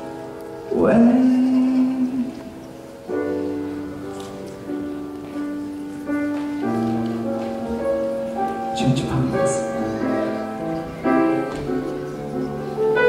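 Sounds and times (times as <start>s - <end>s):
piano jazz chords: 0.0s - 13.0s.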